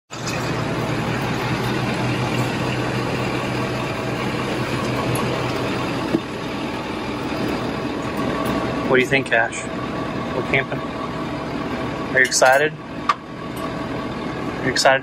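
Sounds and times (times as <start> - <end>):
diesel truck engine idling: 0.1 - 15.0.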